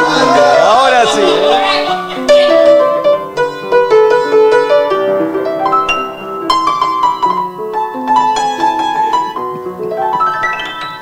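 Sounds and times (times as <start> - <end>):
upright piano playing: 0.0 - 11.0.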